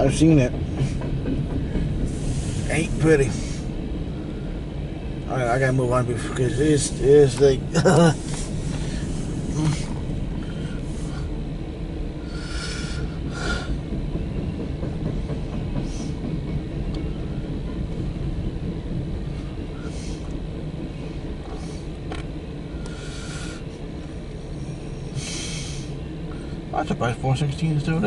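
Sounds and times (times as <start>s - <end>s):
freight train rolling on rails: 0.0s - 28.0s.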